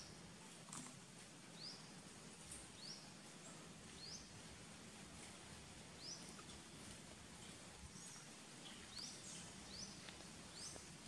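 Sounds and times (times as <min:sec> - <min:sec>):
faint forest ambience: 0:00.0 - 0:11.0.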